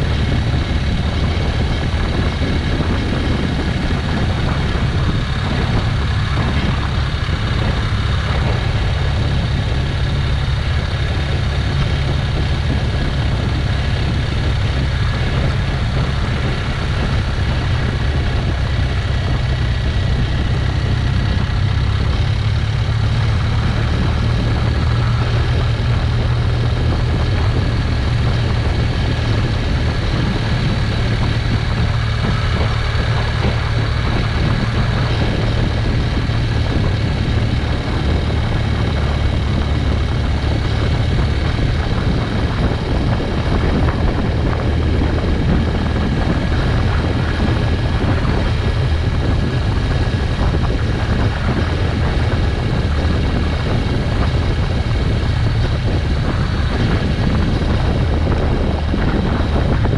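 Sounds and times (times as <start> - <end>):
motorcycle engine running: 0.0 - 59.9
wind rush: 0.0 - 59.9.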